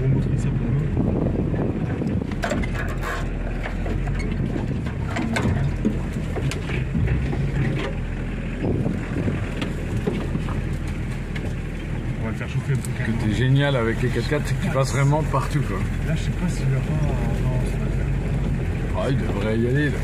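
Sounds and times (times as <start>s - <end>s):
body and interior rattling: 0.0s - 20.0s
engine running from inside cab: 0.0s - 20.0s.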